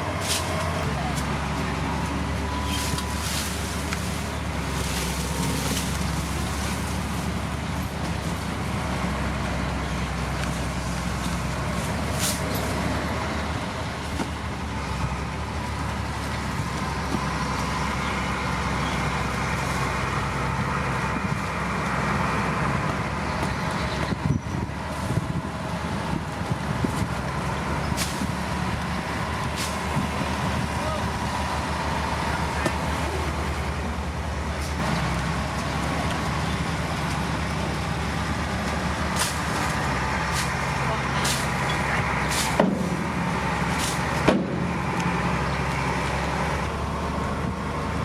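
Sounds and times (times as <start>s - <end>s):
heavy machinery diesel engines: 0.0s - 48.0s.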